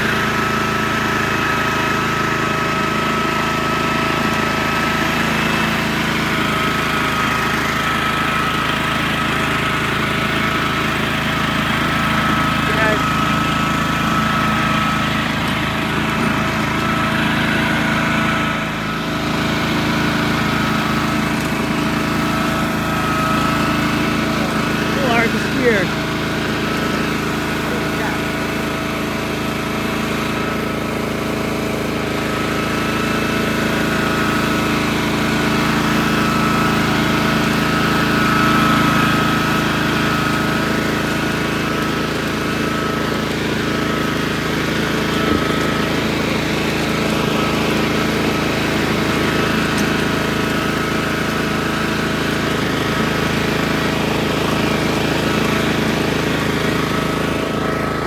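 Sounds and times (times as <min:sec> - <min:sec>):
brush mower engine running: 0:00.0 - 0:58.0.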